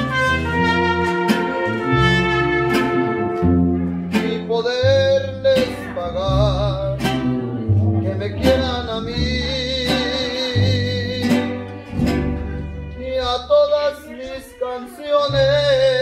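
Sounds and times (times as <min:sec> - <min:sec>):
deep bass guitar notes: 0:00.0 - 0:14.1, 0:15.2 - 0:16.0
strummed guitars: 0:00.0 - 0:16.0
violins melody: 0:00.0 - 0:16.0.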